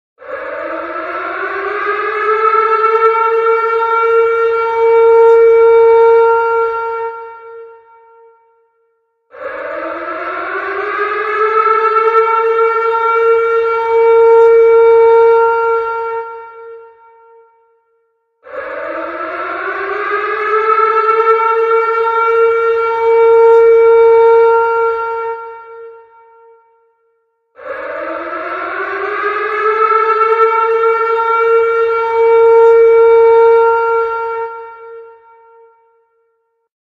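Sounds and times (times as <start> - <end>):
warning siren wailing: 0.2 - 27.0, 27.6 - 36.2.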